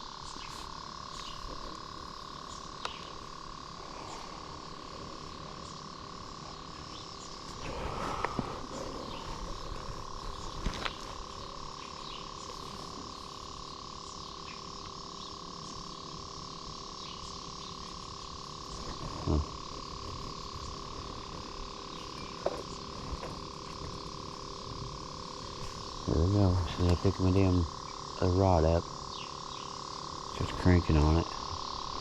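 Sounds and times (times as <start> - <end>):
high animal drone: 0.0 - 32.0.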